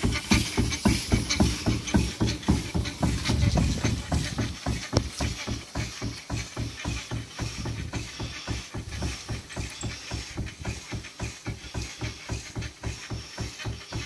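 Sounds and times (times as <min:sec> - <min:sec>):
steam engine exhaust beats: 0:00.0 - 0:14.0.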